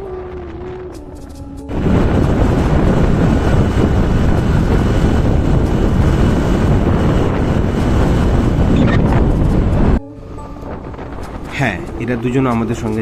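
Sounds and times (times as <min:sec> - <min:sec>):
motorbike engine and road noise: 0:00.0 - 0:13.0
wind rumble on microphone: 0:00.0 - 0:13.0.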